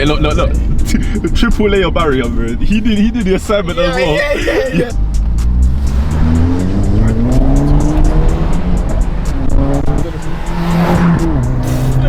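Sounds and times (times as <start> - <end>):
car engine accelerating: 0.0 - 12.0
music with heavy bass: 0.0 - 12.0.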